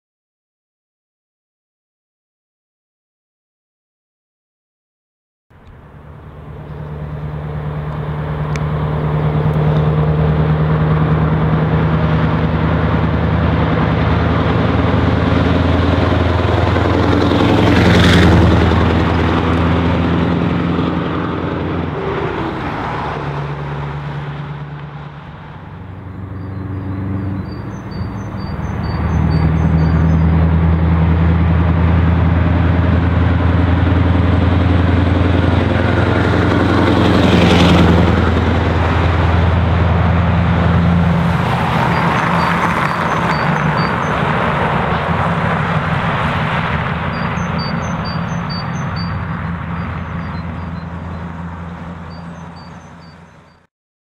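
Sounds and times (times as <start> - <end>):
truck engine driving past: 5.5 - 53.7.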